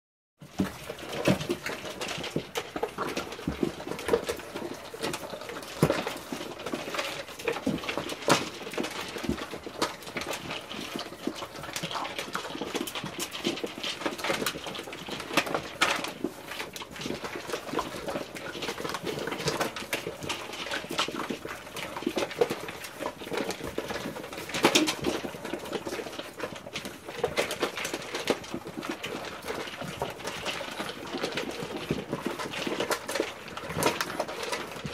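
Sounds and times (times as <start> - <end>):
kibble clattering in plastic bowls: 0.4 - 34.9
puppies chewing: 0.4 - 34.9.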